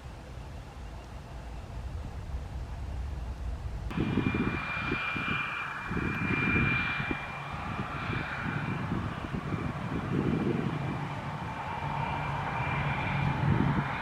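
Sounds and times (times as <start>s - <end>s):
propeller aircraft flying: 0.0s - 14.0s.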